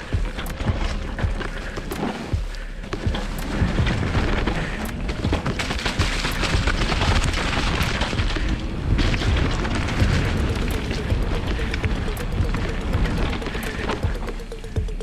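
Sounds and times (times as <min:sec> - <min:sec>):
bike tyres rolling through leaves: 0:00.0 - 0:14.0
bike knocks and rattles: 0:00.0 - 0:15.0
wind rumble on microphone: 0:00.0 - 0:15.0.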